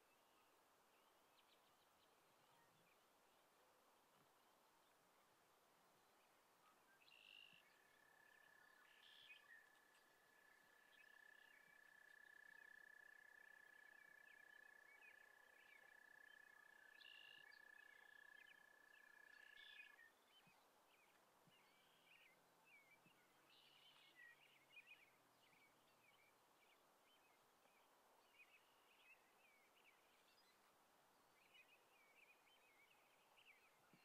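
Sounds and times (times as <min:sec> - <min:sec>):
small birds chirping: 0:06.0 - 0:34.0.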